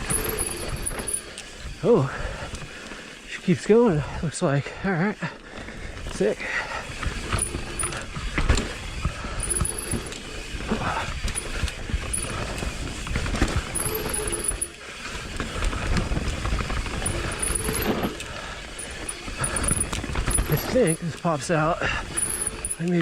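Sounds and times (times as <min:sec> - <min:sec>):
bike chain and frame rattling: 0:00.0 - 0:23.0
bike tyres rolling on dirt: 0:00.0 - 0:23.0.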